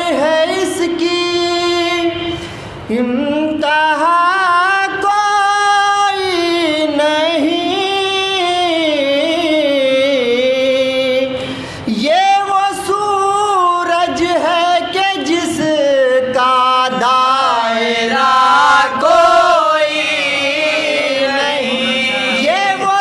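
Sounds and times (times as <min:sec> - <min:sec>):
man singing mourning chant: 0:00.0 - 0:23.0.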